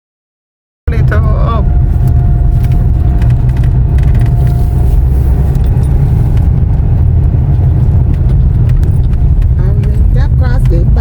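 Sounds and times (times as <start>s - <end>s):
car road and engine noise: 0.9s - 11.0s.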